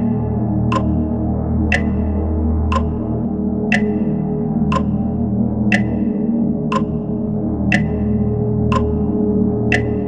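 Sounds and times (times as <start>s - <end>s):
clock-like ticking clicks: 0.0s - 10.0s
low synthesizer drone: 0.0s - 10.0s.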